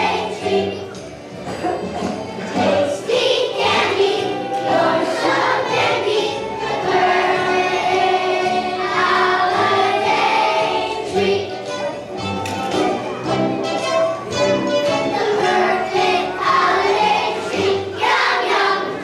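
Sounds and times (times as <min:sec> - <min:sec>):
children's choir singing: 0:00.0 - 0:19.0
instrumental accompaniment: 0:00.0 - 0:19.0.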